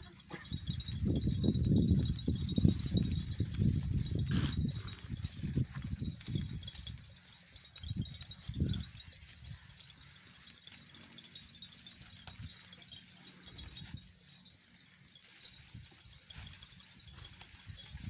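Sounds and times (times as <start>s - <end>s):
goats thudding and shuffling: 0.0s - 18.0s.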